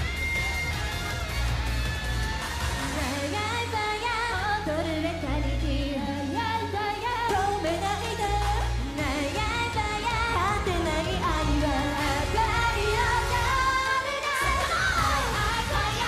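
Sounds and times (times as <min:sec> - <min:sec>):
pop backing track with bass: 0:00.0 - 0:16.0
women singing pop song: 0:02.8 - 0:16.0.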